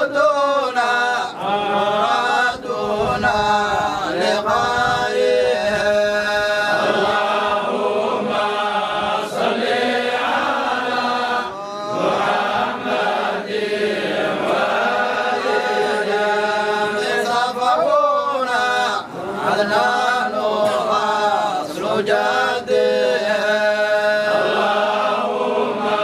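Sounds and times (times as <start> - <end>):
men chanting unaccompanied: 0.0 - 26.0.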